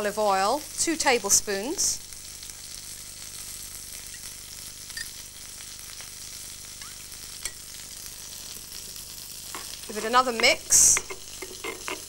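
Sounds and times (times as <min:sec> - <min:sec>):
fish sizzling in a pan: 0:00.0 - 0:12.0.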